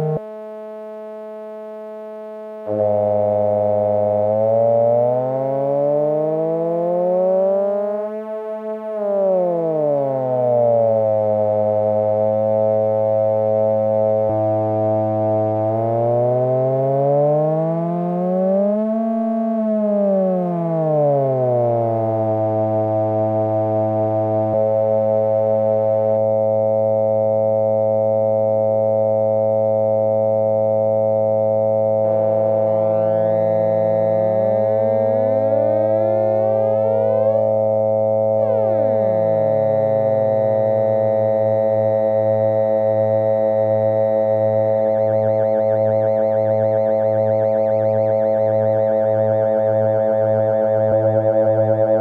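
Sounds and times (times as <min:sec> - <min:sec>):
synth oscillator tones droning: 0:00.0 - 0:52.0.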